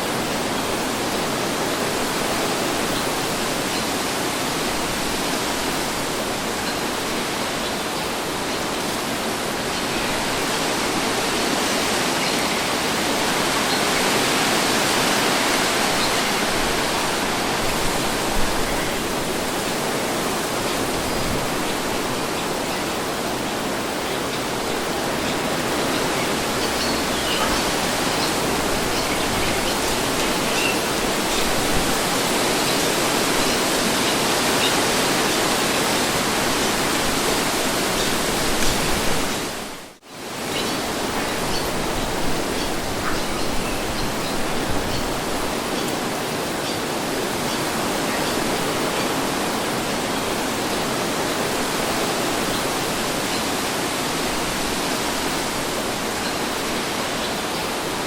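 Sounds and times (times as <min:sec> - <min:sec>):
breeze rushing hiss: 0:00.0 - 0:58.0.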